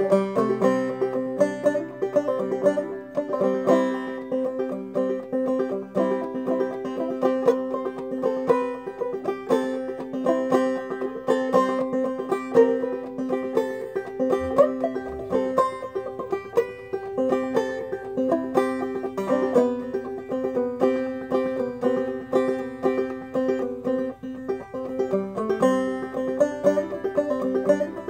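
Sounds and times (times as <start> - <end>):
banjo plucked notes: 0.0 - 28.0.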